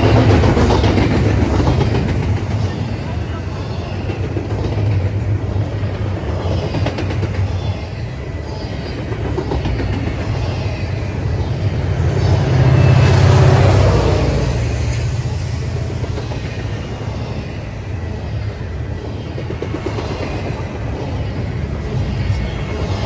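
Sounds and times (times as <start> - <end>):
freight train wheels rumbling on rail: 0.0 - 23.0.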